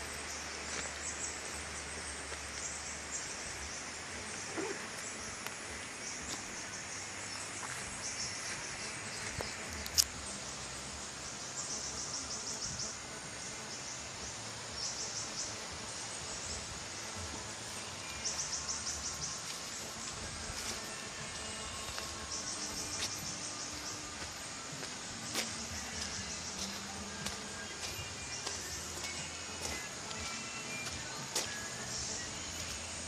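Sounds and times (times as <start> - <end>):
background hiss: 0.0 - 33.0
insects chirping: 0.0 - 33.0.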